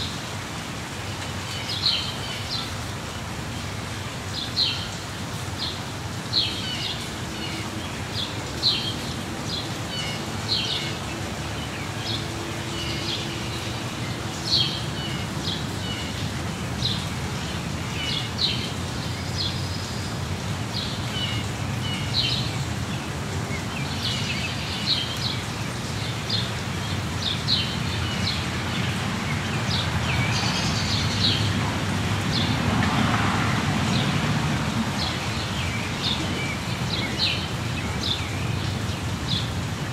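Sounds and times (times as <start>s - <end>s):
songbirds chirping: 0.0s - 39.9s
steady rain: 0.0s - 39.9s.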